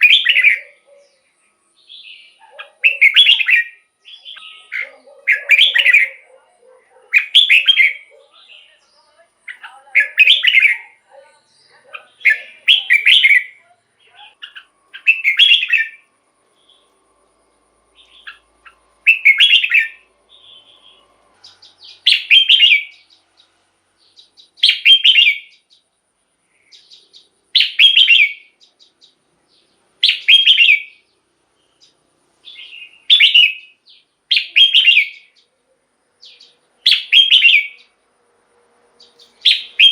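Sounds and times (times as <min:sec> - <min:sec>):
bird singing chirpy phrases: 0:00.0 - 0:38.0, 0:39.0 - 0:39.9.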